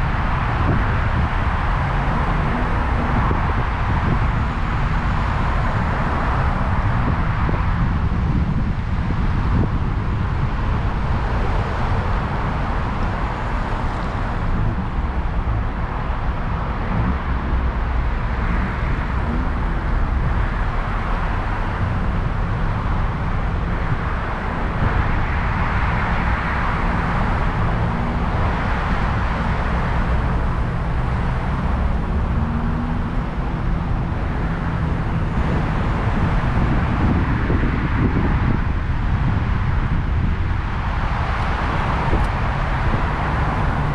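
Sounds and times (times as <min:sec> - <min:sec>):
road noise rumble: 0:00.0 - 0:43.9.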